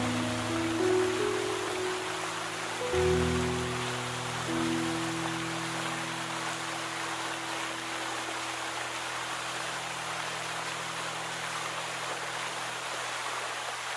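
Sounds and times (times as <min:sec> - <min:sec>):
fountain water splashing: 0:00.0 - 0:13.9.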